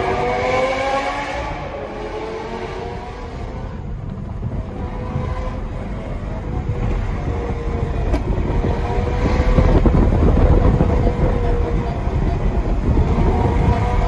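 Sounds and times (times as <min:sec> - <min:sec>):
car engine cruising: 0:00.0 - 0:14.0
road and wind rumble: 0:00.0 - 0:14.0.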